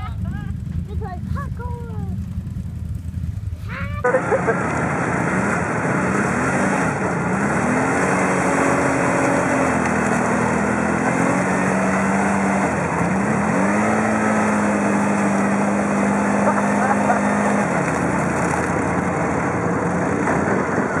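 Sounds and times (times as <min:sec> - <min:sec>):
atv engines labouring through mud: 0:00.0 - 0:21.0.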